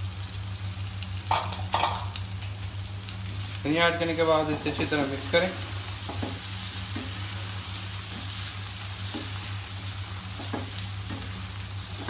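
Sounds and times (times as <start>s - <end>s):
lentils sizzling in a pan: 0.0s - 12.0s.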